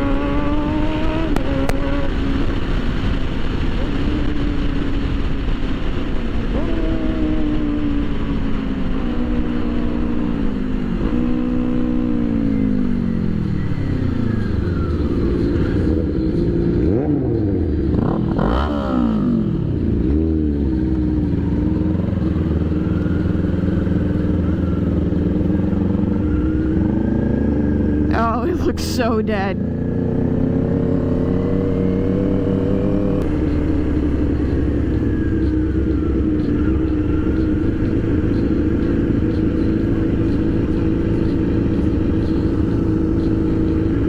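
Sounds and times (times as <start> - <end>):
motorcycle engine revving: 0.0 - 44.0
riding wind noise: 0.0 - 44.0.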